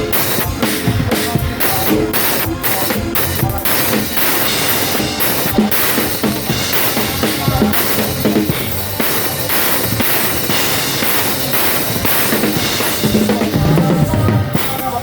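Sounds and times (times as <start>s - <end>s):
loud music with drum kit: 0.0s - 15.0s.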